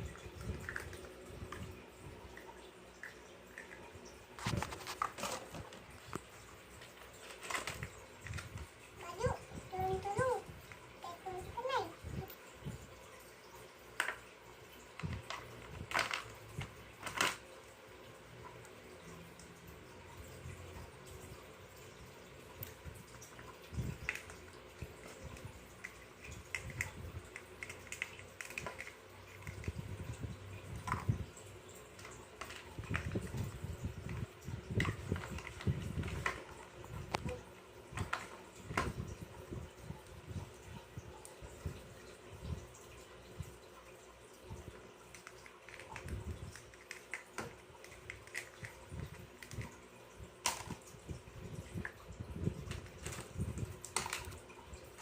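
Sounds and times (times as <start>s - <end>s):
water dripping and splashing: 0.0s - 55.0s.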